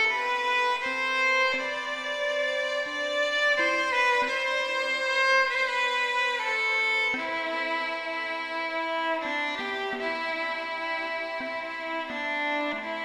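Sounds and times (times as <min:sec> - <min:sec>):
violin playing long bowed notes: 0:00.0 - 0:13.0.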